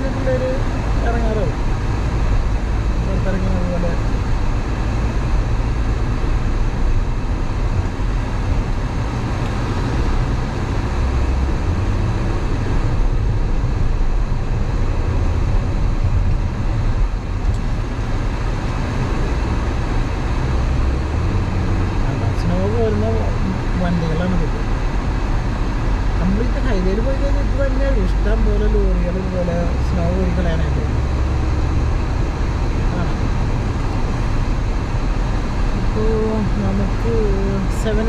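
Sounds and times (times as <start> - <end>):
car road noise: 0.0 - 38.0.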